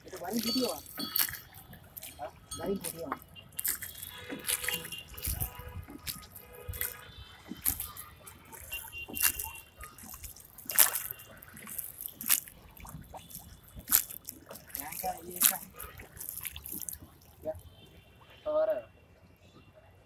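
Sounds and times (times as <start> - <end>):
oar splashing through water: 0.0 - 18.4.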